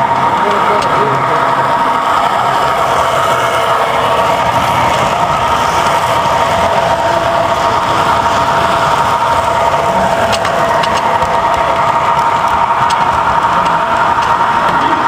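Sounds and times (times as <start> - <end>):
toy trains rumbling whir: 0.0 - 15.0
electric motor whine: 0.2 - 15.0.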